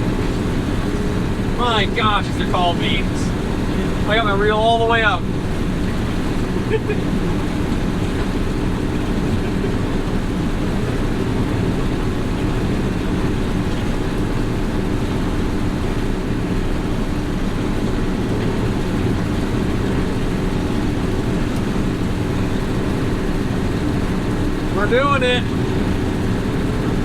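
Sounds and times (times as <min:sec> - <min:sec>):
combine harvester running: 0:00.0 - 0:27.0.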